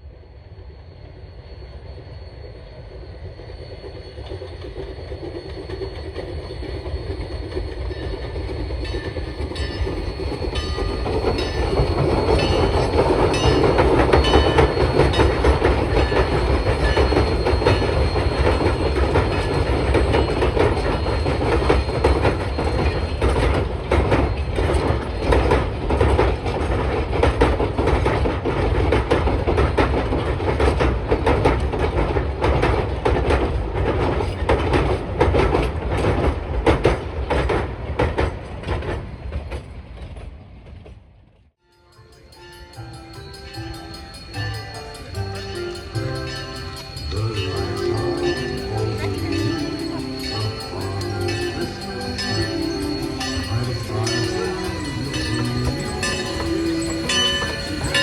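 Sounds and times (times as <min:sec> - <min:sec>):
train passing: 0:00.0 - 0:58.0
wheels clacking over rail joints: 0:06.9 - 0:41.0, 0:41.9 - 0:58.0.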